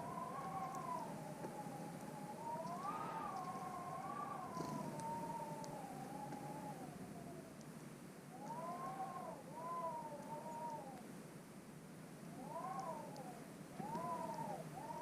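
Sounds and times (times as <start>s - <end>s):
wavering animal call: 0.0s - 7.5s, 8.3s - 11.0s, 12.4s - 15.0s.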